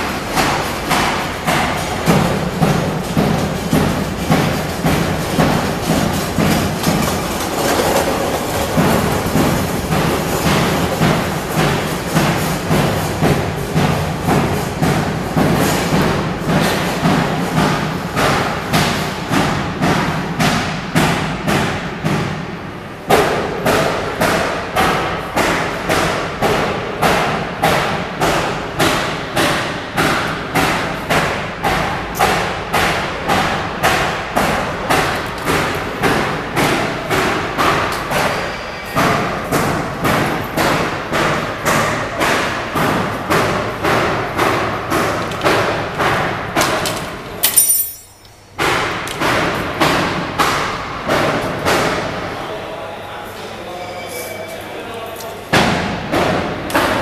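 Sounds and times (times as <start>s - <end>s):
conveyor belt knocking: 0.0s - 53.3s, 54.9s - 57.0s.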